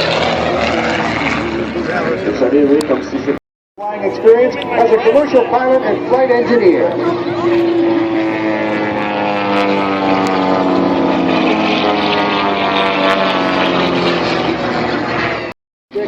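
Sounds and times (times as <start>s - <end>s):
radial engine and propeller: 0.0s - 16.0s.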